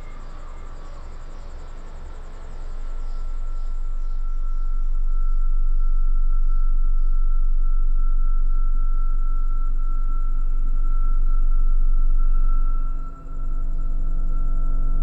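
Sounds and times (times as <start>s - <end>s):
high whistle-like tone: 0.0s - 1.5s, 3.0s - 15.0s
crickets chirping: 0.0s - 15.0s
low rumbling drone: 0.0s - 15.0s.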